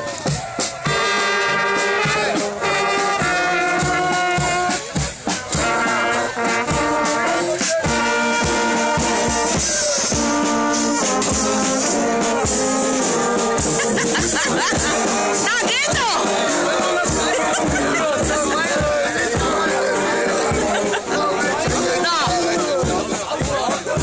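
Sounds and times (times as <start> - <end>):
bass drum beat: 0.0 - 24.0
brass band playing held chords: 0.0 - 24.0.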